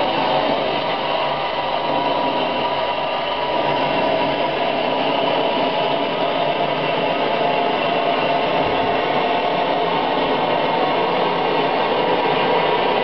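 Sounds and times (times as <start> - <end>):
steam locomotive boiler hissing: 0.0 - 13.0.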